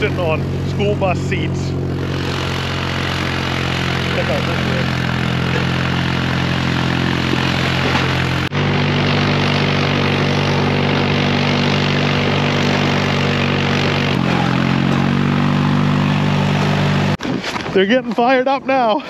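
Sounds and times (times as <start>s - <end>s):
vehicle engine running: 0.0s - 17.2s.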